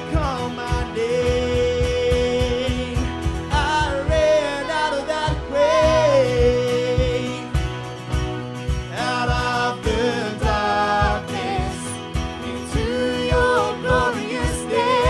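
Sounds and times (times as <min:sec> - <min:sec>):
steady drum beat: 0:00.0 - 0:04.6, 0:05.2 - 0:15.0
worship band playing: 0:00.0 - 0:15.0.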